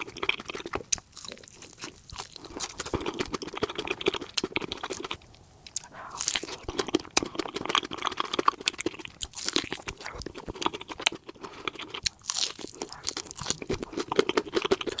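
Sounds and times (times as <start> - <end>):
chewing and crunching food: 0.0 - 15.0.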